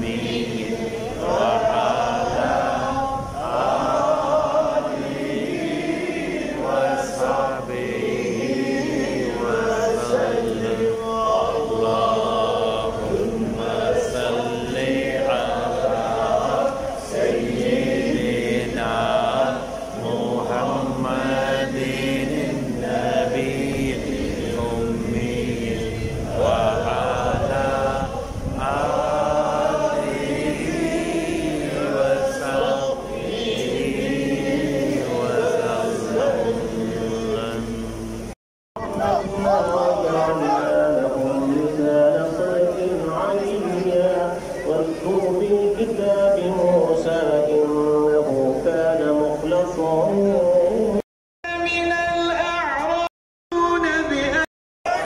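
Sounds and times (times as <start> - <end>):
religious chanting: 0.0 - 55.0.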